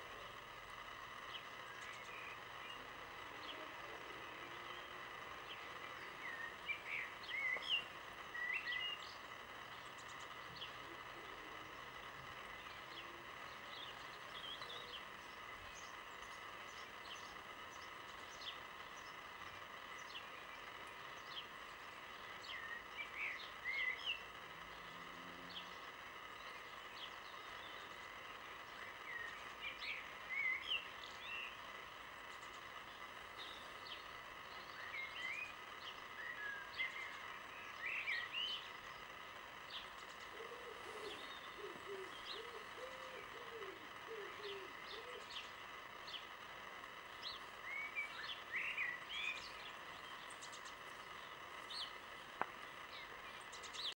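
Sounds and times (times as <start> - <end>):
lower repeated bird calls: 0.0 - 53.9
outdoor background hiss: 0.0 - 53.9
birds singing high phrases: 0.8 - 24.8, 25.4 - 52.1.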